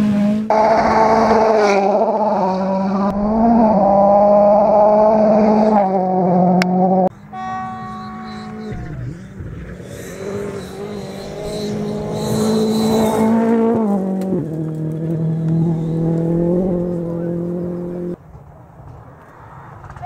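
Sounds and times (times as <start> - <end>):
rally car engine accelerating: 0.0 - 18.2.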